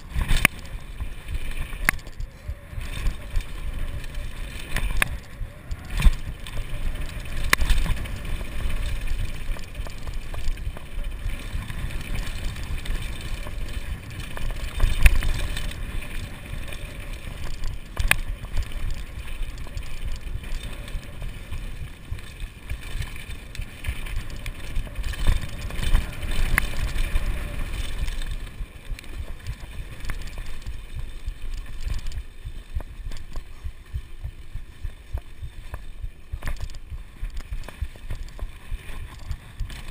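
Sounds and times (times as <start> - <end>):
bike rattling and knocking: 0.0 - 39.9
tyres rumbling on dirt: 0.0 - 39.9
wind on microphone: 0.0 - 39.9.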